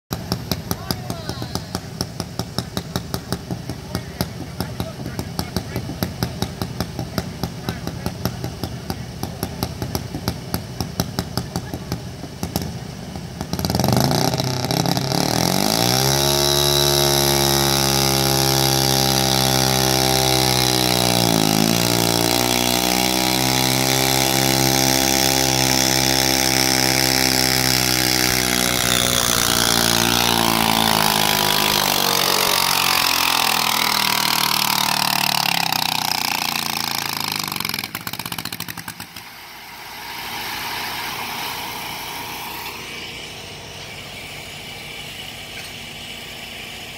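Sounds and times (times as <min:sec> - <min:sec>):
garden tractor engine revving: 0:00.0 - 0:46.9.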